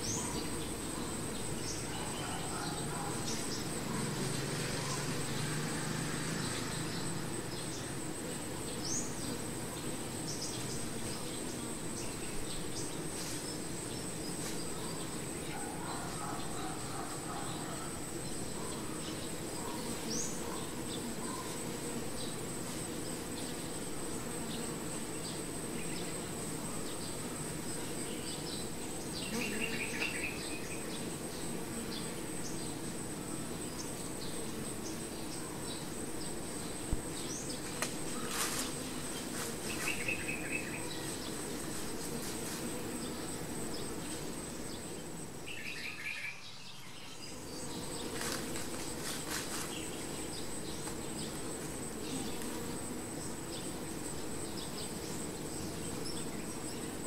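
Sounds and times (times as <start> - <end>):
bees buzzing: 0.0 - 57.0
high-pitched insect whine: 0.0 - 57.0.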